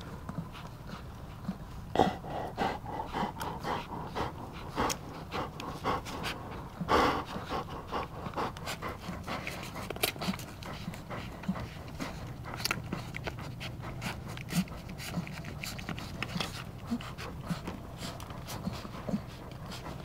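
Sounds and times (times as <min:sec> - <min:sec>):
puppies suckling: 0:00.0 - 0:20.0
puppy snuffling: 0:00.3 - 0:20.0.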